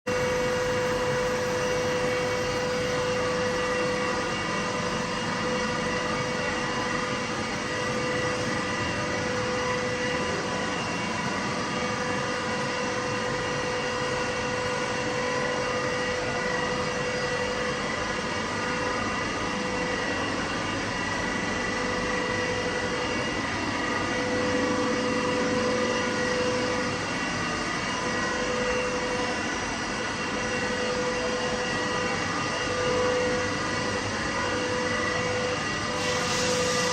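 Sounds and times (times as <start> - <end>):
machine running with whine: 0.1 - 36.9.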